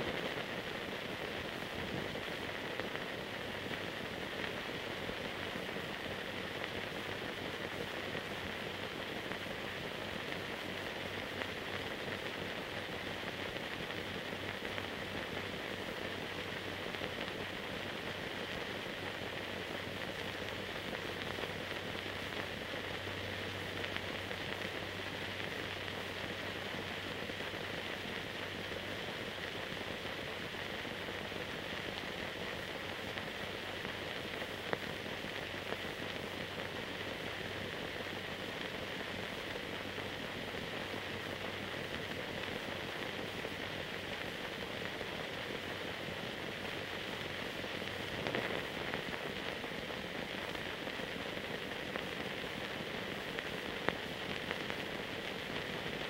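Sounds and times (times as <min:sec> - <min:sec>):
film hiss with crackle: 0:00.0 - 0:56.0.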